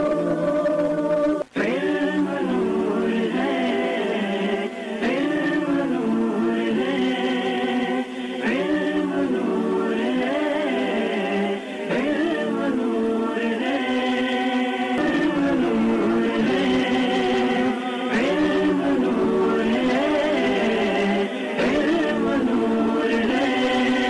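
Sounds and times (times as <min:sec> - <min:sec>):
wordless choir-like vocals: 0:00.0 - 0:24.0.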